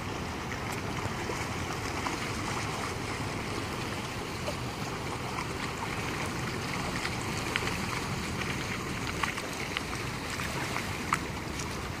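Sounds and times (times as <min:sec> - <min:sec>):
boat engine low rumble: 0:00.0 - 0:12.0
water noise: 0:00.0 - 0:12.0.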